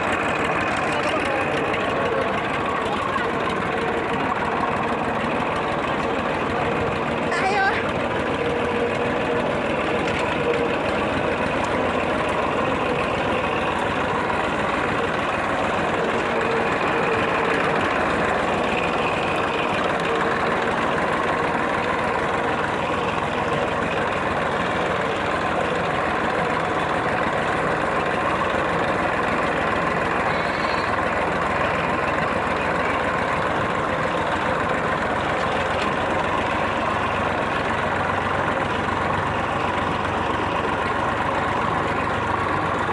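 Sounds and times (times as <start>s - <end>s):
tractor diesel engine drone: 0.0s - 42.9s.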